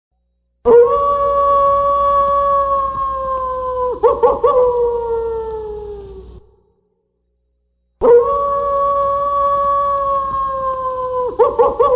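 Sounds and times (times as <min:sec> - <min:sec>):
wolf howling: 0:00.7 - 0:06.6, 0:08.0 - 0:11.9.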